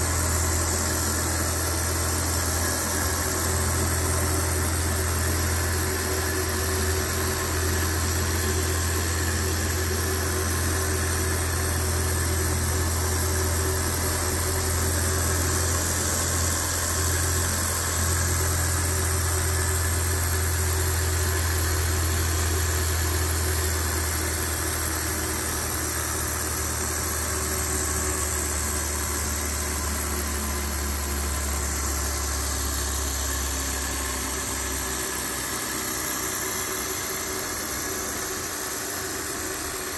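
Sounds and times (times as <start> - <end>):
model engine mechanical whir: 0.0 - 39.9.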